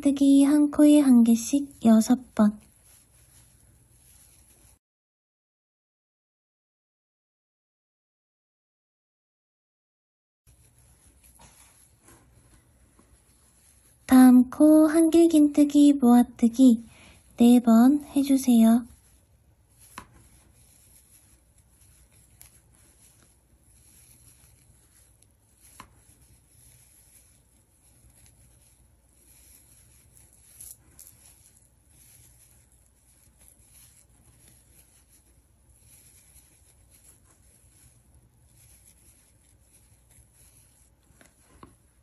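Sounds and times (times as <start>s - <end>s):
yarn rustling with crochet hook: 0.0s - 4.8s, 10.5s - 42.0s.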